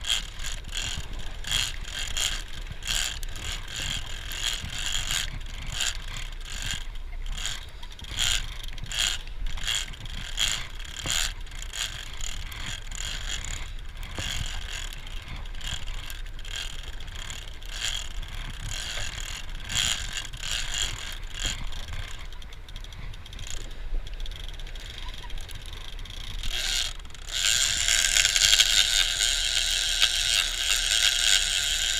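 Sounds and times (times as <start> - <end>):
fishing reel ratchet ticking: 0.0 - 31.9
low steady rumble: 0.0 - 31.9.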